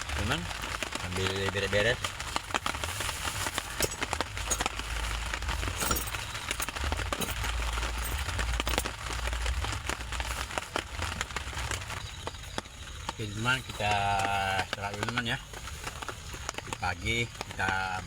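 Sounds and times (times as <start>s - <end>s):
camp gear clinking and knocking: 0.1s - 12.4s, 13.1s - 15.6s.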